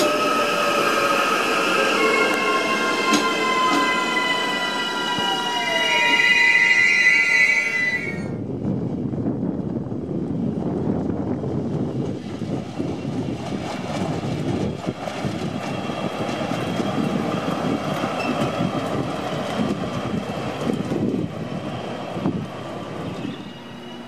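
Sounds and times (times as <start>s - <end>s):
diesel locomotive passing: 0.0s - 24.0s.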